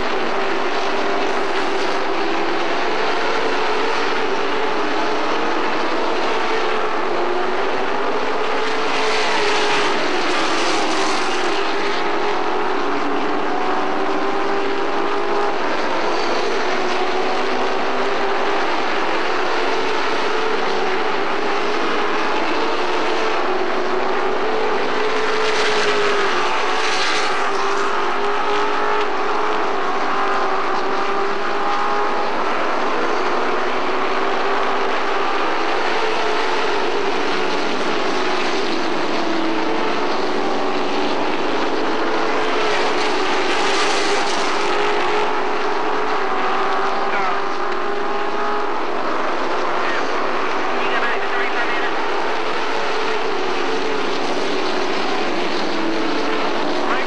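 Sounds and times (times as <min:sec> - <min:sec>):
racing truck engines droning: 0:00.0 - 0:57.0.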